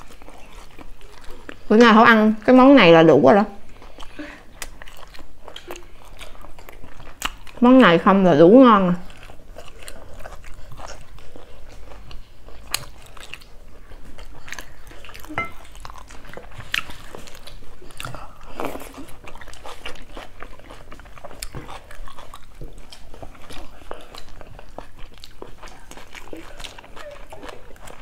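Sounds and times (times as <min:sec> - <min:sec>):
chewing and biting food: 0:00.0 - 0:28.0.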